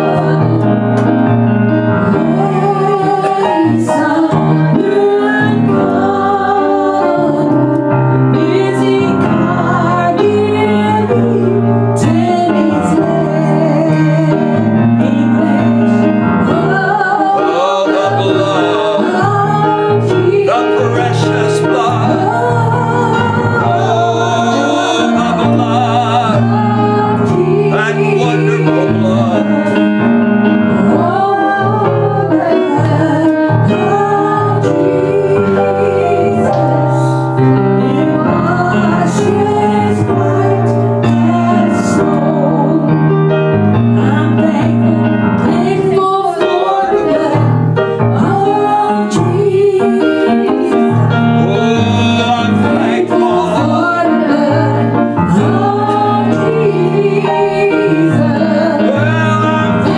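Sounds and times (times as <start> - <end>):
woman singing into a microphone: 0.0 - 1.3, 2.0 - 30.0, 30.8 - 52.0, 52.6 - 59.9
instrumental accompaniment: 0.0 - 59.9.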